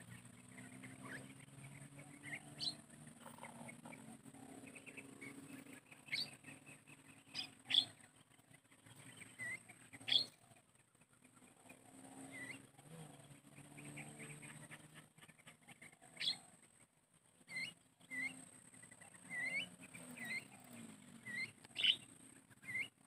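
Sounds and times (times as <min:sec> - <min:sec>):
sharp bird calls: 0:00.0 - 0:23.0
soft bird chirps: 0:00.0 - 0:23.0.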